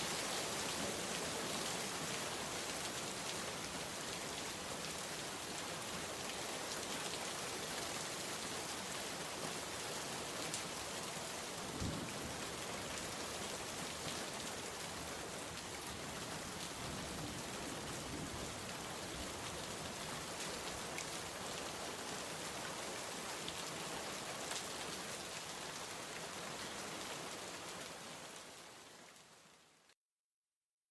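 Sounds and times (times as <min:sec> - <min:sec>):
rain pattering on a surface: 0:00.0 - 0:30.0.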